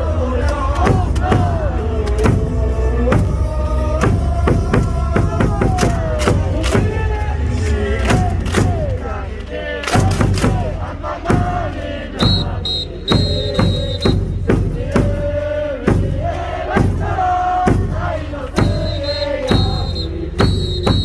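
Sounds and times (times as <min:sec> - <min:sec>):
amplified stadium music: 0:00.0 - 0:21.0
crowd chanting in unison: 0:00.0 - 0:21.0
drum beat: 0:00.8 - 0:07.2, 0:08.0 - 0:09.0, 0:09.9 - 0:21.0.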